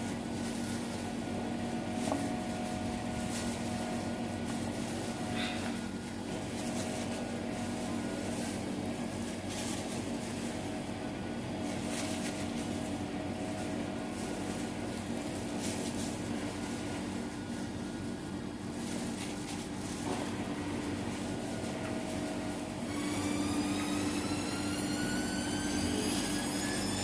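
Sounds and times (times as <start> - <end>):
faint clatters and rustles: 0.0 - 10.8, 11.6 - 22.7
steady mechanical hum: 0.0 - 27.0.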